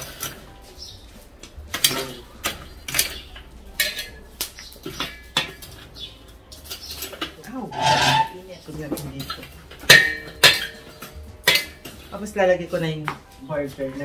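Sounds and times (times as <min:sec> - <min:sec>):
metal tongs clanking on grill: 0:00.0 - 0:00.6, 0:01.7 - 0:13.1.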